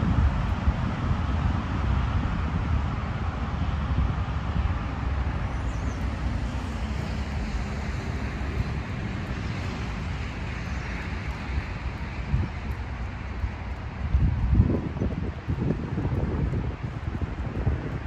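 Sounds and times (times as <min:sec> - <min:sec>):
distant road traffic: 0:00.0 - 0:18.0
wind buffeting microphone: 0:00.0 - 0:18.0.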